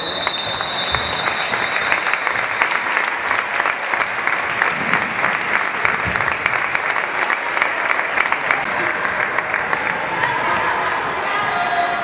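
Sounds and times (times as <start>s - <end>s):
applause: 0.0s - 10.6s.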